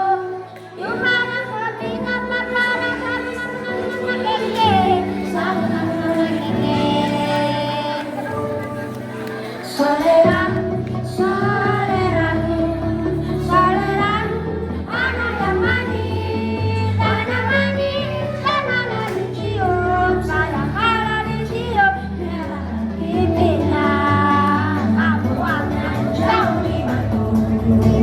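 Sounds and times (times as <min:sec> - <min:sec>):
children's choir singing: 0:00.0 - 0:28.0
instrumental backing track: 0:00.0 - 0:28.0.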